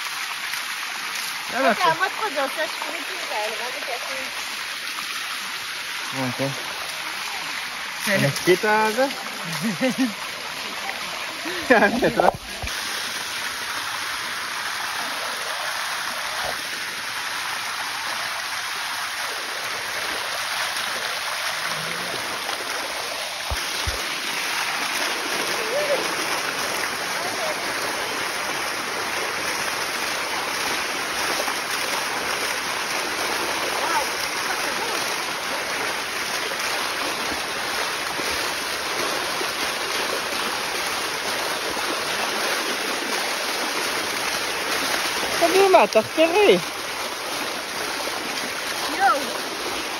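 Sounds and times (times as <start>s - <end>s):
water rushing down waterfall: 0.0s - 49.9s.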